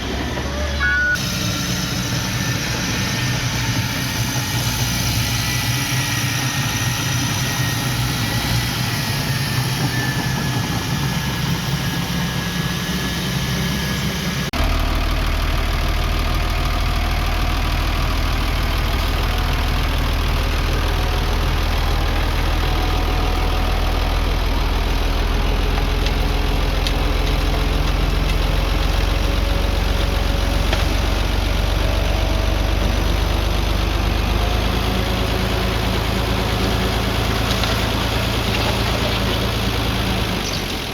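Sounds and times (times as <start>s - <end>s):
deep engine drone: 0.0s - 40.9s
diesel machinery engines running: 0.0s - 40.9s.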